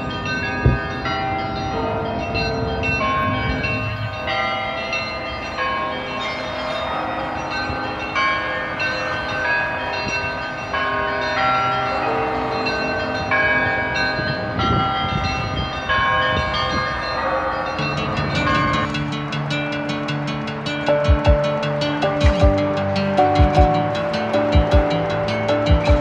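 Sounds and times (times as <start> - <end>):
church bells ringing: 0.0 - 26.0
low rumble of street traffic: 0.0 - 26.0.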